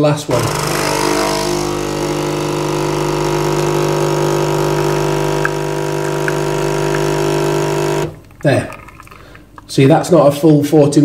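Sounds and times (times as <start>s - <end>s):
coffee machine pump humming: 0.0s - 10.0s
espresso pouring into cup: 0.3s - 10.1s.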